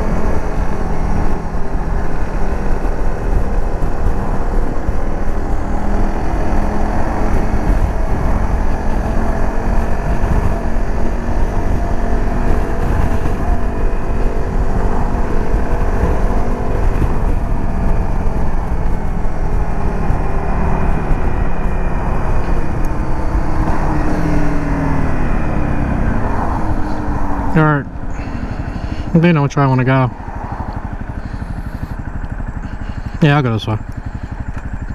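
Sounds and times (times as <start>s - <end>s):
dirt bike engine running: 0.0s - 34.9s
wind rush on microphone: 0.0s - 34.9s.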